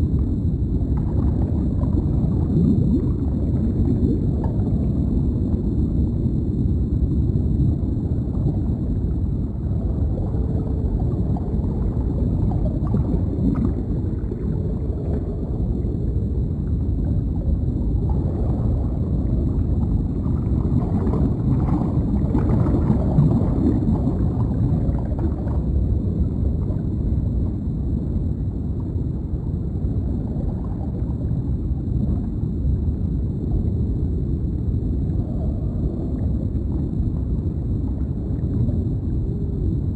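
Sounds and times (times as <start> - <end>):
low underwater rumble: 0.0 - 39.9
bubbles gurgling: 0.2 - 39.9.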